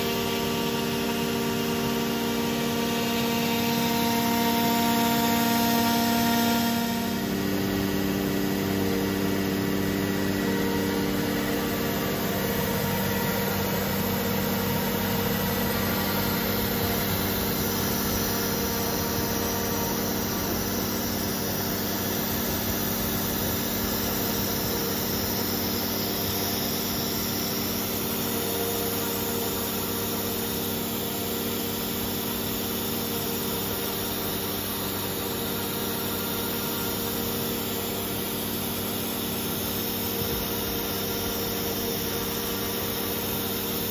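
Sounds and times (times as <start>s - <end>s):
vacuum pump humming: 0.0s - 43.9s.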